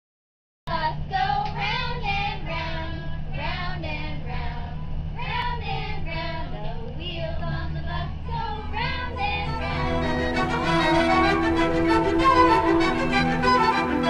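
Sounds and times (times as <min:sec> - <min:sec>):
steady low hum: 0:00.7 - 0:14.0
voices singing together: 0:00.7 - 0:14.0.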